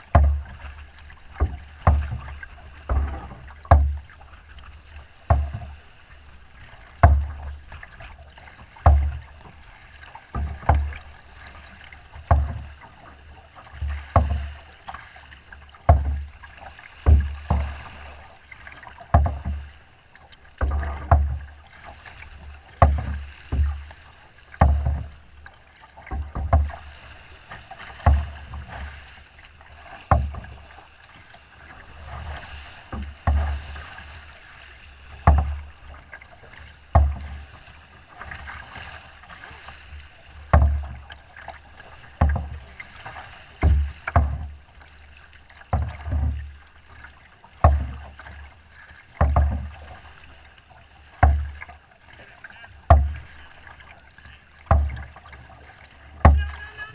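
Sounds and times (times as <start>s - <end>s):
boat hull thudding on waves: 0.0s - 56.9s
water splashing along hull: 0.0s - 56.9s.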